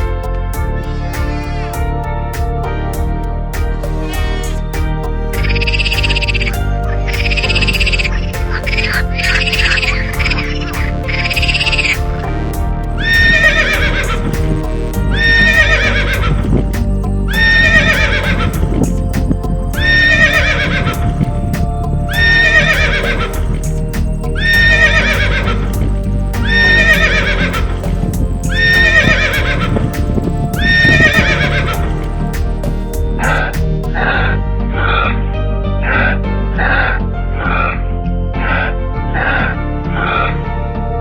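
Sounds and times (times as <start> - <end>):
background music with a beat: 0.0 - 34.8.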